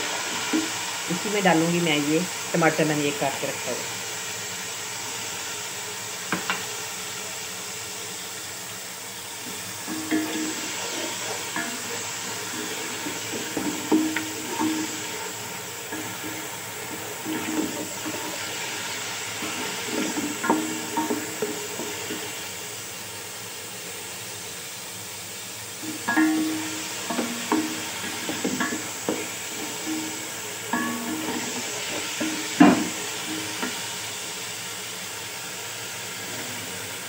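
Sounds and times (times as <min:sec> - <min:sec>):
food sizzling in oil: 0:00.0 - 0:37.0.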